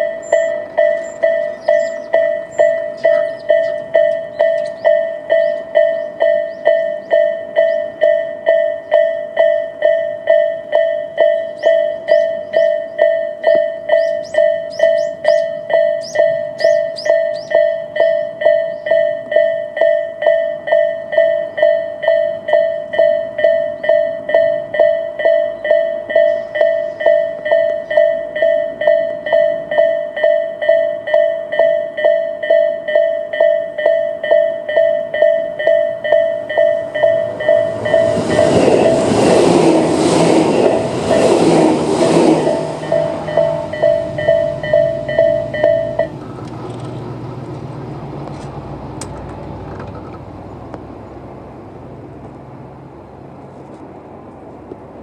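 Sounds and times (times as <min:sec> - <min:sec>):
level crossing warning bell: 0:00.0 - 0:49.0.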